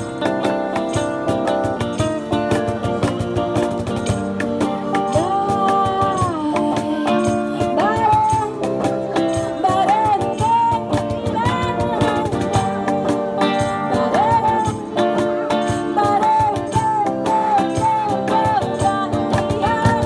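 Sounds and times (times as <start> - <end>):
shaken hand percussion: 0.0 - 20.0
strummed acoustic guitars: 0.0 - 20.0.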